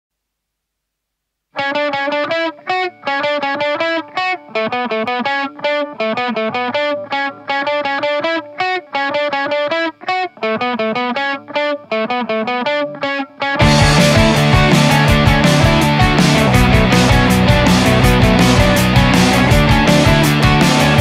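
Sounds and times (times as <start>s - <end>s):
distorted electric guitar riff: 1.6s - 21.0s.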